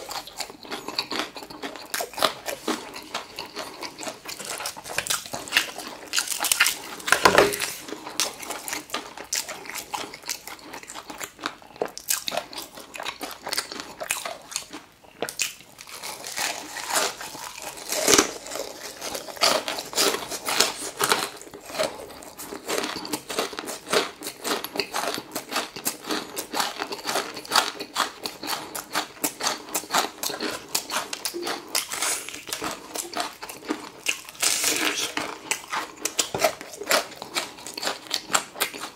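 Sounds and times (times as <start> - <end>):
person chewing crispy chicken: 0.0 - 38.9.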